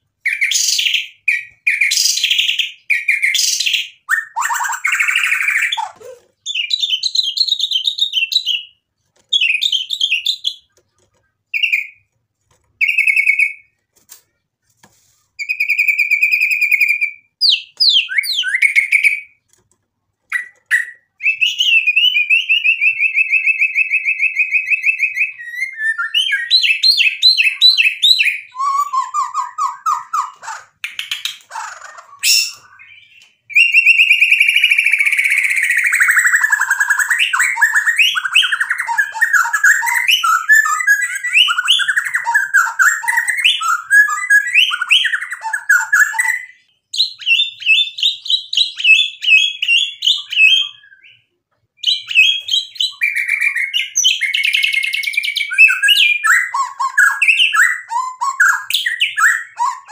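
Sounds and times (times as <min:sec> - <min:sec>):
songbird singing trills and whistles: 0:00.2 - 0:08.8, 0:11.5 - 0:12.2, 0:12.8 - 0:13.7, 0:15.4 - 0:19.4, 0:20.3 - 0:59.9.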